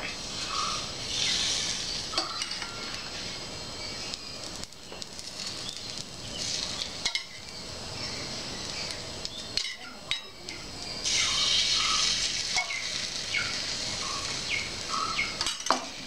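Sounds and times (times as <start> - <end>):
egg sizzling on a griddle: 0.0 - 16.0.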